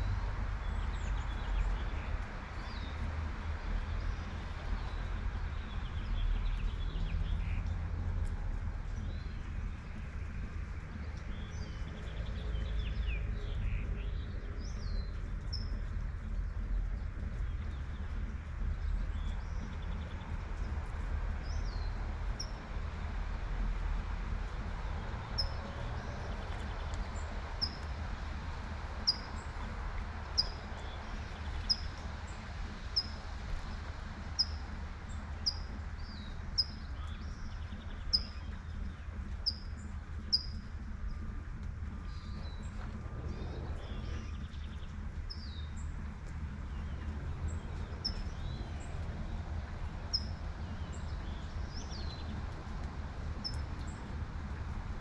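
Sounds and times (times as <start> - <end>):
distant traffic rumble: 0.0 - 55.0
light rain hiss: 0.0 - 55.0
songbird chirping: 0.0 - 55.0.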